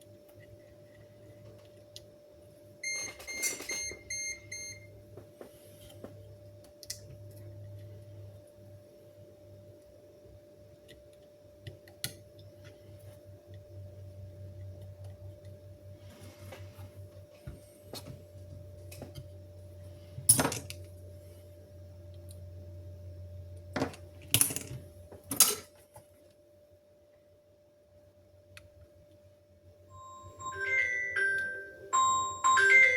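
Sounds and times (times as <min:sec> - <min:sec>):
steady low hum: 0:00.0 - 0:32.5.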